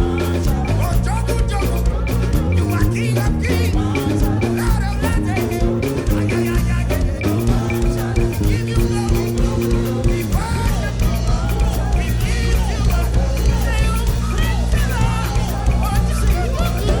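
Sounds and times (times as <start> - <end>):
band playing dance music: 0.0 - 17.0
people singing: 0.0 - 17.0.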